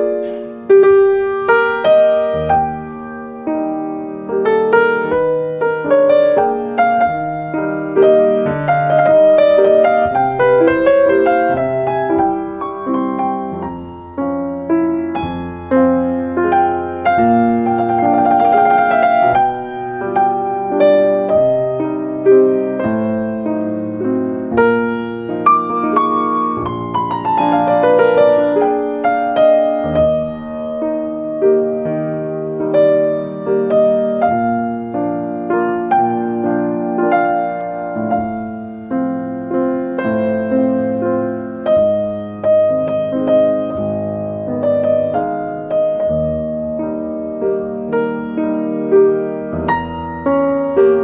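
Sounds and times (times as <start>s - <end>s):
slow solo piano music: 0.0s - 51.0s.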